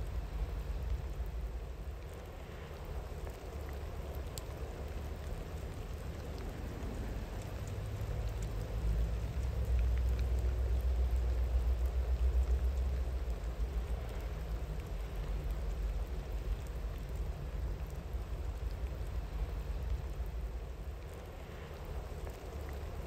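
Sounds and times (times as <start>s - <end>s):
rain hiss: 0.0s - 23.0s
raindrops ticking: 0.0s - 23.0s.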